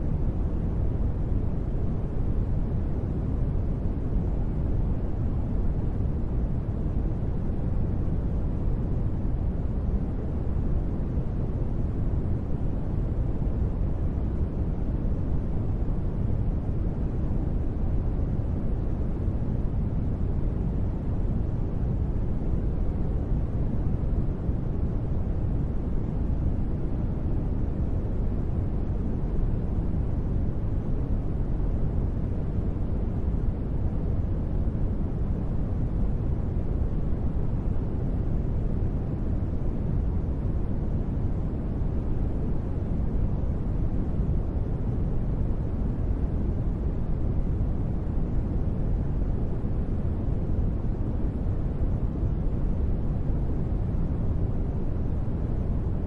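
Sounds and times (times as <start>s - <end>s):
deep steady ambient noise: 0.0s - 56.0s.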